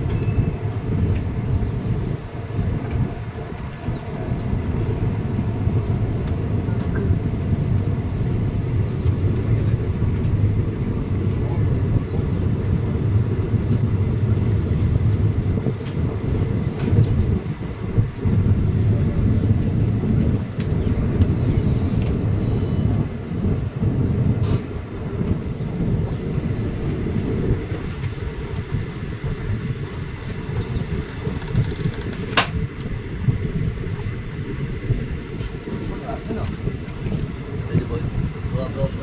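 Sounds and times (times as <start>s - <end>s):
train coach rumbling at speed: 0.0s - 39.0s.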